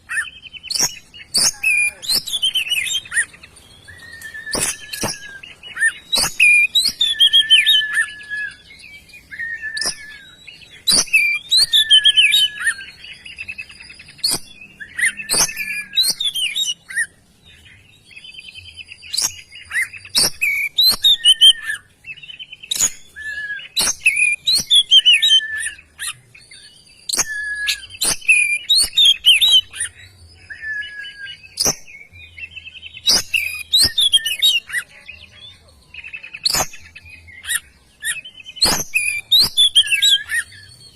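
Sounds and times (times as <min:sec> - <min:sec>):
bird singing whistled phrases: 0:00.0 - 0:17.1, 0:18.1 - 0:40.9.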